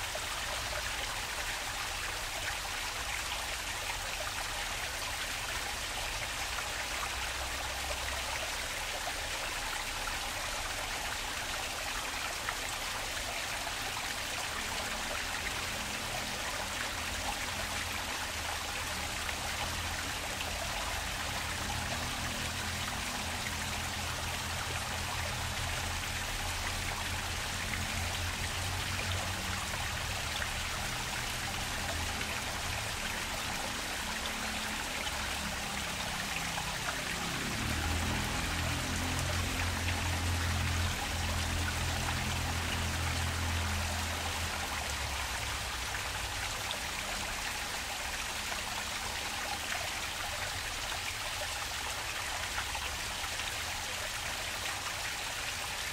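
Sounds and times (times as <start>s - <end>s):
stream water flowing: 0.0s - 55.9s.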